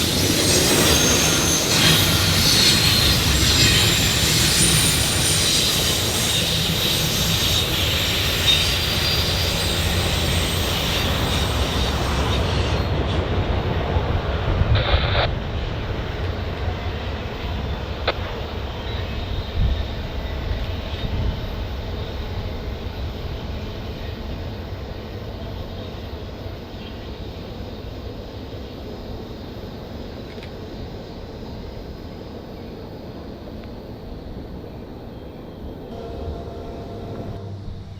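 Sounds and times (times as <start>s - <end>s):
train wheels squealing: 0.0s - 15.2s, 16.1s - 37.9s
train rattle: 0.0s - 37.9s
train rumbling on rails: 0.0s - 37.9s.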